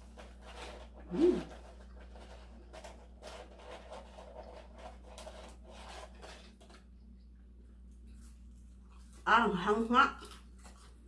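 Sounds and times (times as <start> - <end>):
chewing crispy food: 0.0 - 11.0.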